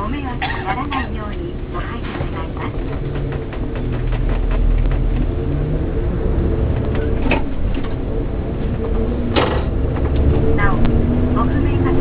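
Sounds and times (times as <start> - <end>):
coach engine and road hum: 0.0 - 12.0.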